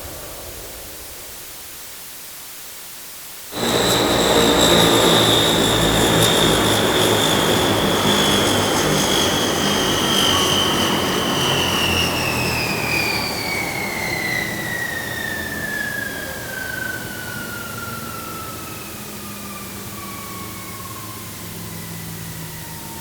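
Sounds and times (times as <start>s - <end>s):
jet engine whine and rumble: 3.5s - 23.0s.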